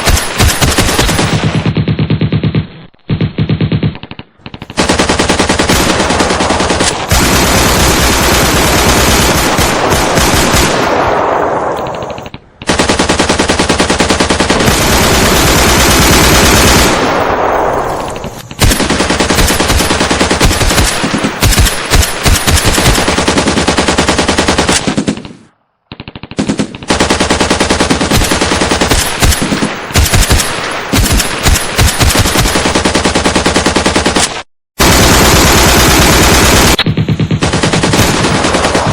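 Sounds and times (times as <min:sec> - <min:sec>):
automatic machine-gun fire: 0:04.7 - 0:25.2, 0:25.9 - 0:34.2, 0:34.8 - 0:38.9.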